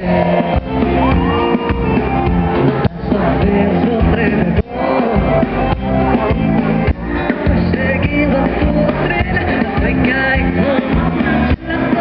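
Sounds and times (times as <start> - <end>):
drums: 0.0 - 12.0
guitar: 0.0 - 12.0.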